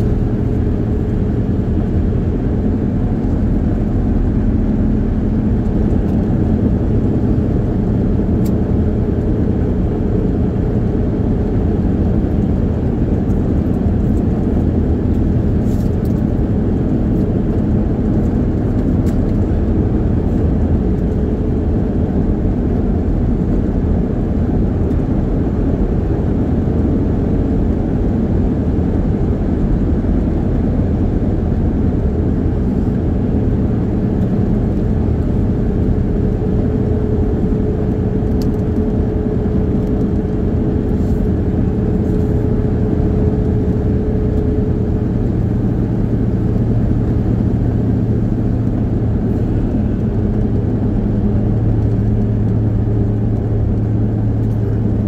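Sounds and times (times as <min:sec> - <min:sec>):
car road and engine noise: 0:00.0 - 0:55.0
low hum: 0:00.0 - 0:55.0.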